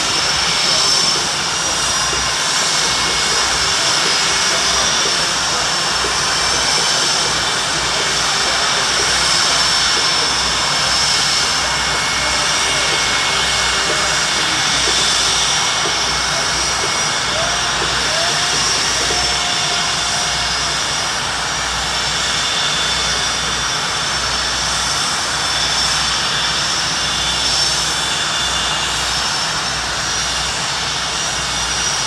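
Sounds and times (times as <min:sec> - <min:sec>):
aircraft engine running: 0:00.0 - 0:32.0.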